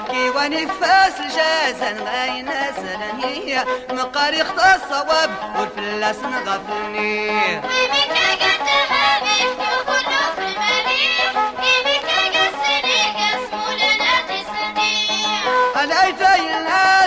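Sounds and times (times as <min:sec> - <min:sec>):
traditional music with wavering melody: 0:00.0 - 0:17.0.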